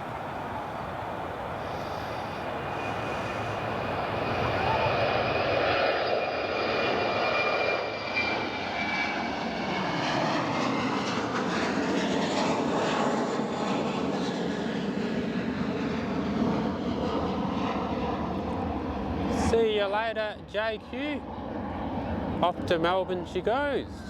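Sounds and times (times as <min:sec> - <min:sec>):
high jet whine: 0:00.0 - 0:24.0
jet engines roaring: 0:00.0 - 0:24.0.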